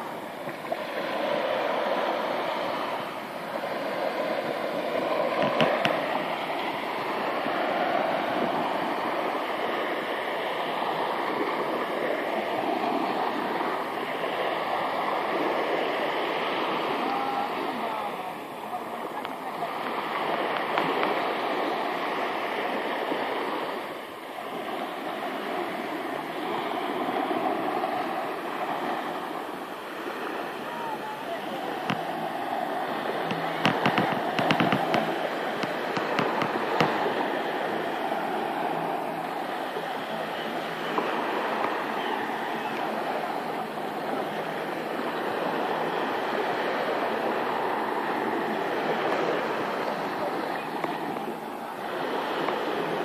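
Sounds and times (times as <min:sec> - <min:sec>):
small waves breaking on beach: 0:00.0 - 0:53.0.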